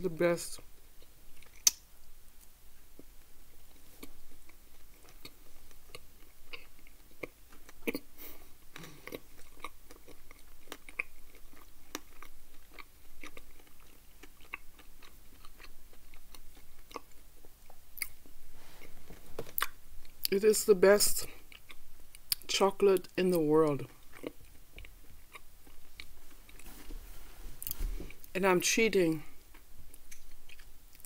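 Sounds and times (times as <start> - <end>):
person chewing chocolate: 0.9 - 1.8, 2.4 - 20.4, 21.3 - 26.9, 27.6 - 28.4, 29.4 - 31.0.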